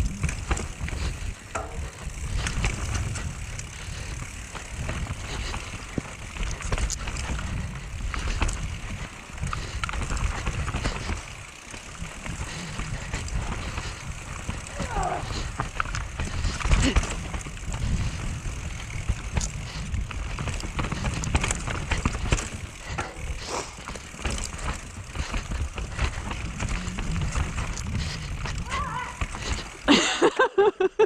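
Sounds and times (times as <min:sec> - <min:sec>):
mountain bike rattling over roots: 0:00.0 - 0:30.3.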